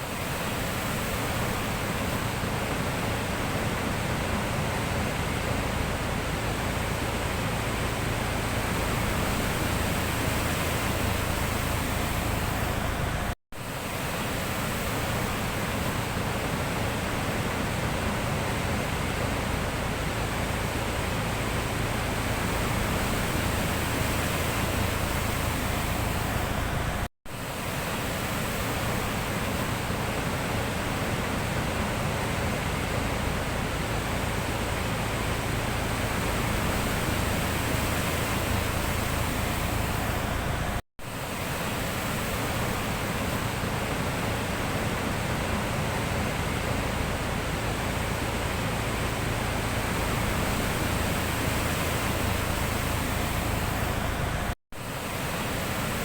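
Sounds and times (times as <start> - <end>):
sea surf: 0.0 - 56.0.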